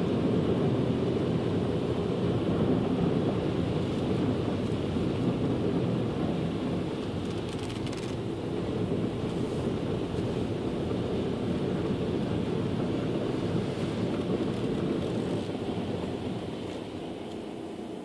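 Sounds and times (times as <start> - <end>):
water swishing around car tyres: 0.0 - 17.7.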